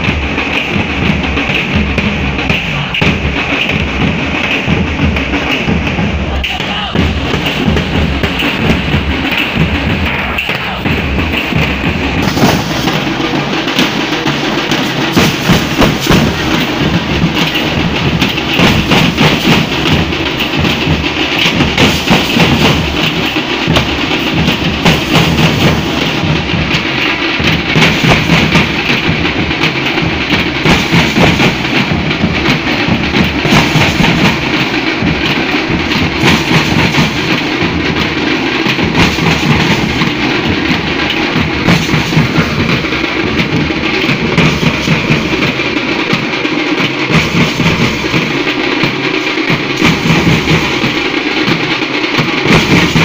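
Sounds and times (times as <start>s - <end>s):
barrel drums beaten in unison: 0.0s - 53.0s.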